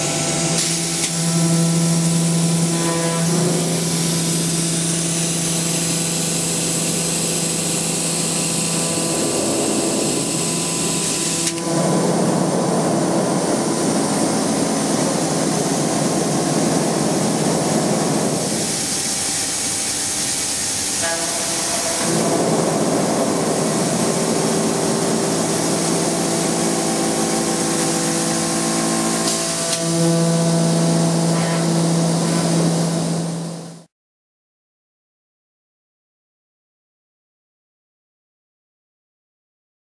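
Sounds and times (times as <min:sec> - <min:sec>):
milling machine grinding: 0:00.0 - 0:33.2
machine hum: 0:00.0 - 0:33.9.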